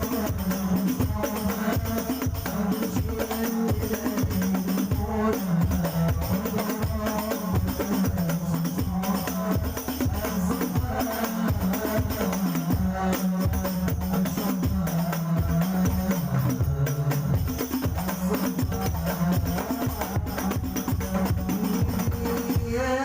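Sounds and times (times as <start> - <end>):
jingling hand percussion: 0.0 - 22.8
frame drums and bass drum: 0.0 - 23.0.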